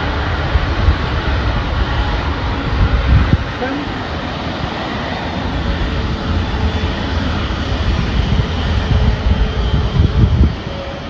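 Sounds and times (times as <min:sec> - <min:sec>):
jet engines taxiing: 0:00.0 - 0:11.0.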